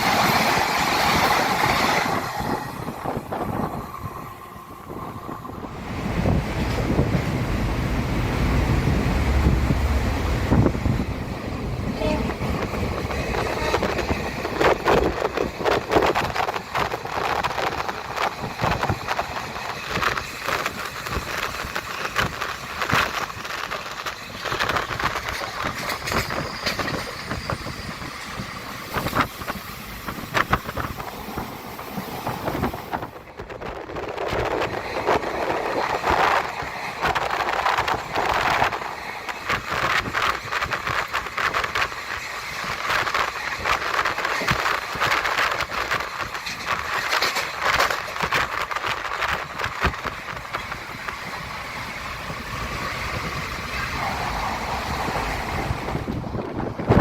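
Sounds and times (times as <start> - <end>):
train rumble: 0.0 - 57.0
wheels clacking on rails: 0.0 - 57.0.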